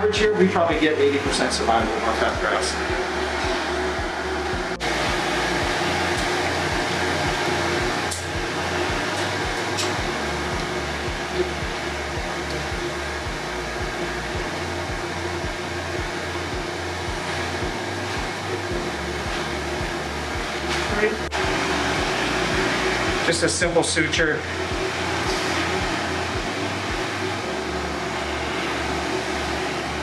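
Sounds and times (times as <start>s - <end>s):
steady rushing noise: 0.0s - 30.0s
music with pulsing bass beat: 0.2s - 30.0s.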